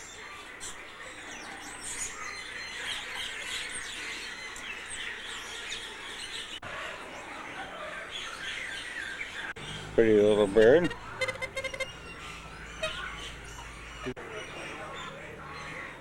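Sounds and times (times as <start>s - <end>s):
many birds chirping: 0.0s - 16.0s.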